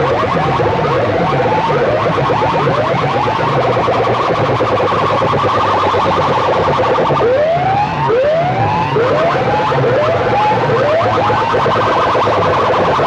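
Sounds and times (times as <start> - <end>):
pulsing electronic music: 0.0 - 13.0
siren-like whoop effect: 0.0 - 13.0.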